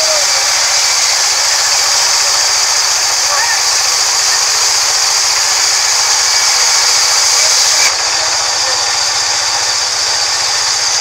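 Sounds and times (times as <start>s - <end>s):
band saw blade hissing through wood: 0.0s - 11.0s
motor humming: 0.0s - 11.0s.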